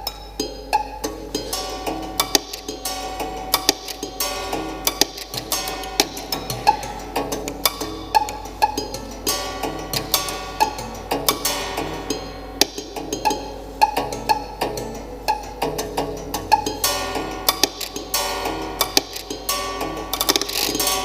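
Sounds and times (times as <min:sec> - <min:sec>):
piano string notes: 0:00.7 - 0:21.0
mechanical clicks and taps: 0:01.6 - 0:15.9, 0:16.6 - 0:21.0.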